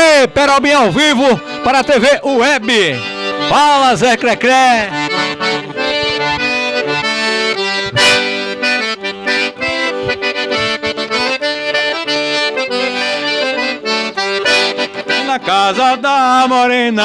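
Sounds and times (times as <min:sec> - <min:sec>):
accordion playing folk melody: 0:00.0 - 0:17.0.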